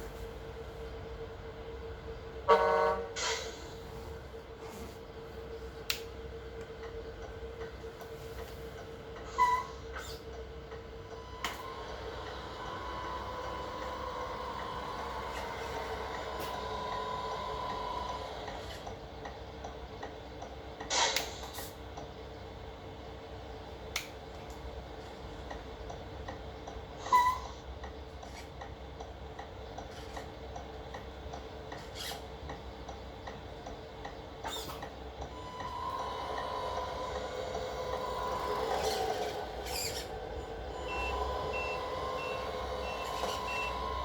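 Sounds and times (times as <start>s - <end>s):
model truck electrical hum: 0.0s - 44.0s.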